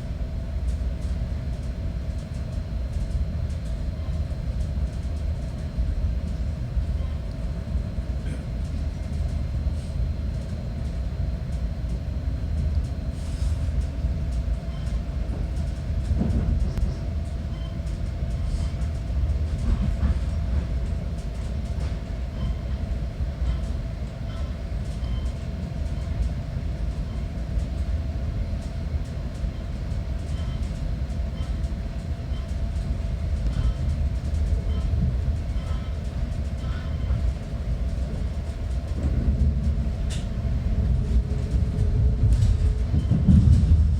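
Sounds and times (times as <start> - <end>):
diesel train rumbling: 0.0 - 43.9.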